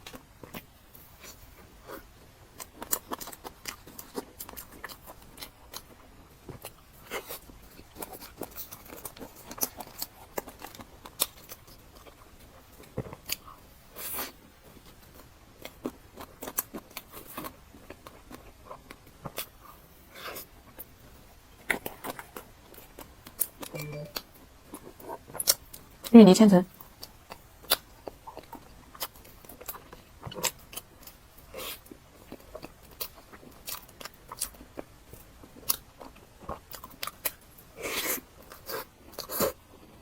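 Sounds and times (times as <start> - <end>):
person chewing cake: 0.0 - 26.1, 26.7 - 40.0.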